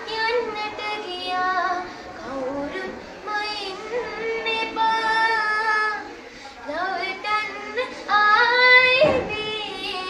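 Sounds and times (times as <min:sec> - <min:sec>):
child singing: 0:00.0 - 0:06.1, 0:06.7 - 0:10.0.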